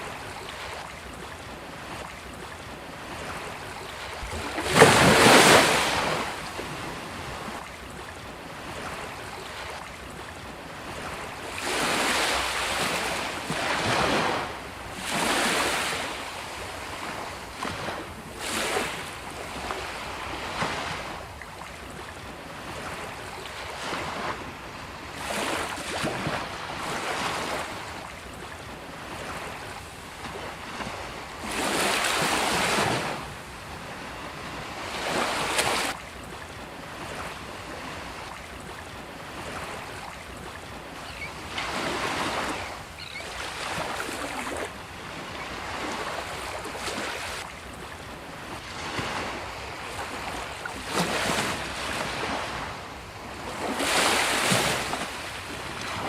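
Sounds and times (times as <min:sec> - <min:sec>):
sea waves breaking on beach: 0:00.0 - 0:56.0.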